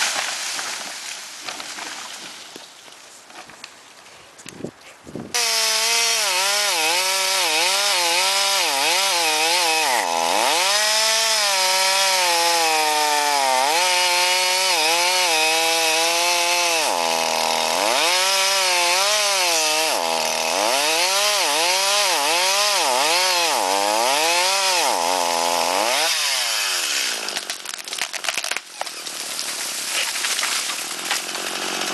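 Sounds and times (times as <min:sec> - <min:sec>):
chainsaw cutting wood: 0:05.3 - 0:31.9.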